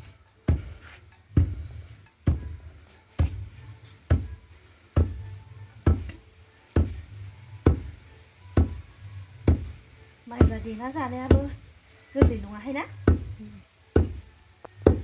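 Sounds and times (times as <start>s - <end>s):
pestle pounding grain in mortar: 0.4s - 14.2s, 14.8s - 15.0s.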